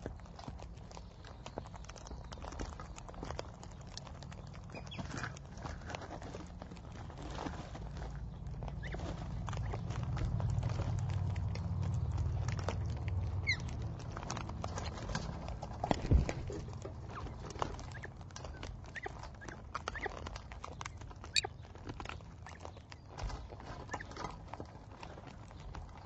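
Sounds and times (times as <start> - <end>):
birds pecking and cracking seed: 0.0 - 26.0
wing flapping rumble: 0.0 - 26.0.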